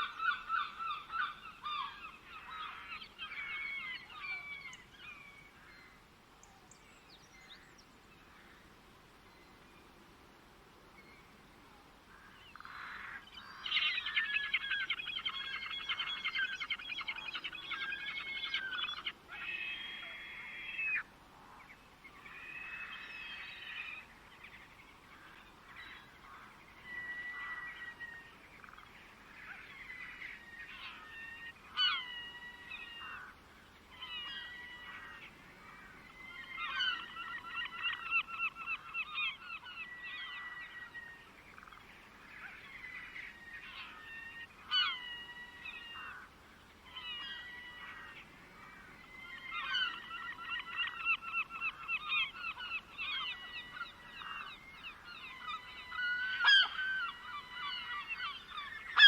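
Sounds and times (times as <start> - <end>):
birds singing: 0.0 - 8.6, 12.1 - 59.0.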